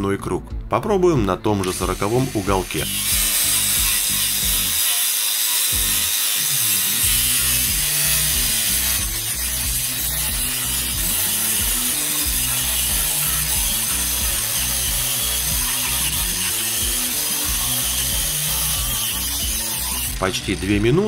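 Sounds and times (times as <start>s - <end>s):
background music: 0.0s - 21.0s
angle grinder on metal: 1.6s - 21.0s.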